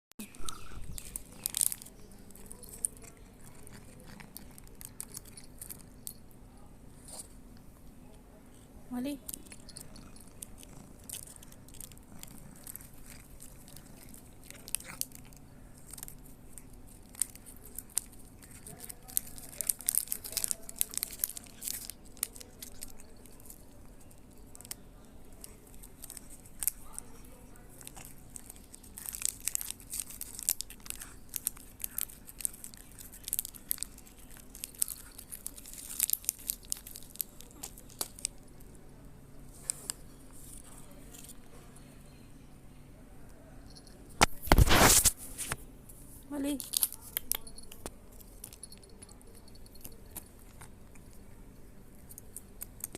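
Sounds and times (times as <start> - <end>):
cat chewing and crunching food: 0.2 - 42.4, 43.0 - 52.9.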